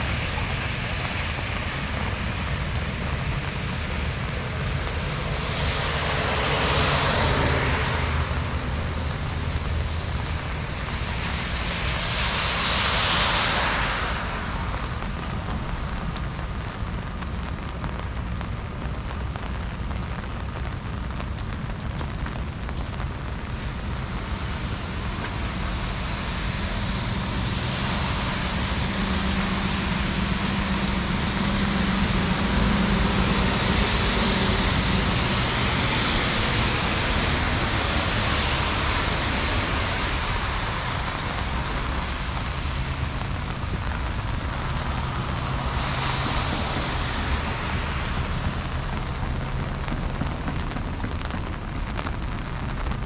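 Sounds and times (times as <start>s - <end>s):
heavy rain: 0.0s - 53.0s
low engine hum: 0.0s - 53.0s
tyres hissing on wet road: 0.0s - 53.0s.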